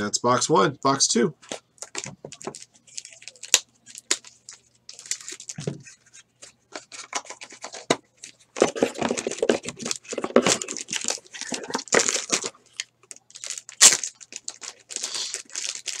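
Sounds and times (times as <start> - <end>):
plastic crinkling: 1.4 - 16.0.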